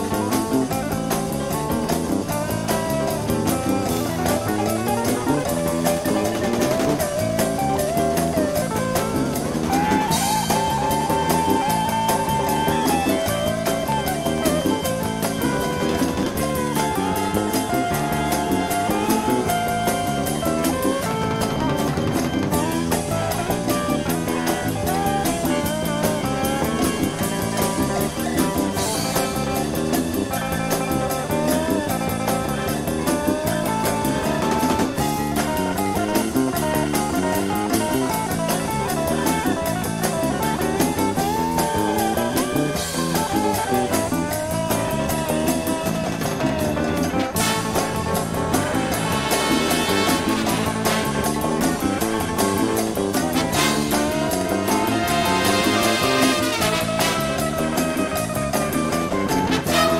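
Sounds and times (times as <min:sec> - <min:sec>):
pop-rock band music: 0:00.0 - 0:59.9.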